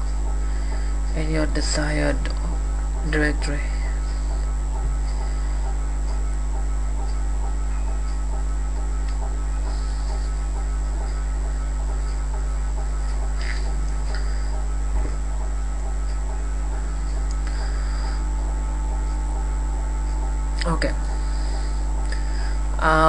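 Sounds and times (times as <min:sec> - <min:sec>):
electrical mains hum: 0:00.0 - 0:23.0
faint high whine: 0:00.0 - 0:23.0.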